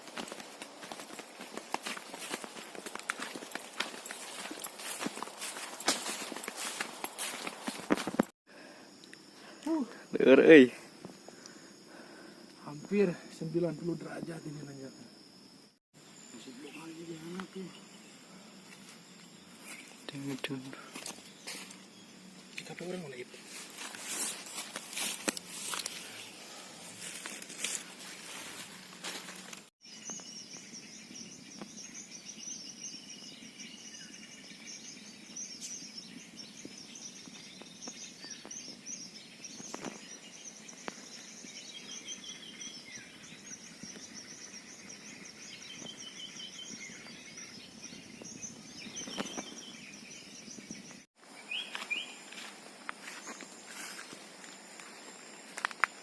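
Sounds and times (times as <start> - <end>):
high-pitched wildlife chirping chorus: 0.0 - 56.0.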